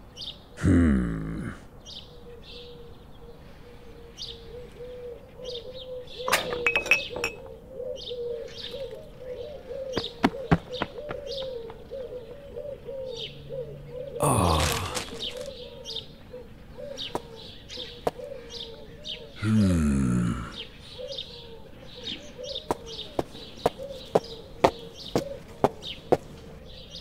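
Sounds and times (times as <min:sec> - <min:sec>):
birds chirping and cooing: 0:00.0 - 0:27.0.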